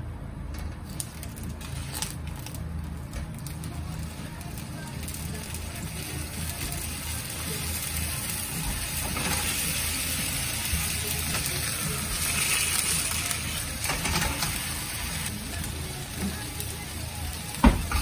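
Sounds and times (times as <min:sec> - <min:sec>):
onions sizzling in a pan: 0:00.8 - 0:18.0.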